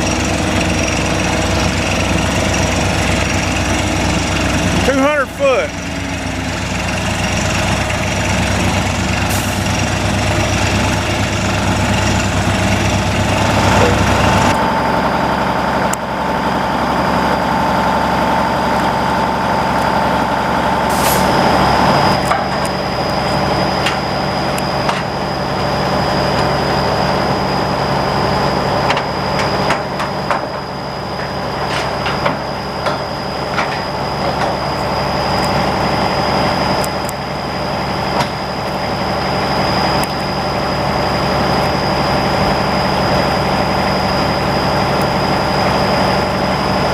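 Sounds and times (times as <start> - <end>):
drilling rig engine hum: 0.0 - 46.9
steady whine: 0.0 - 46.9.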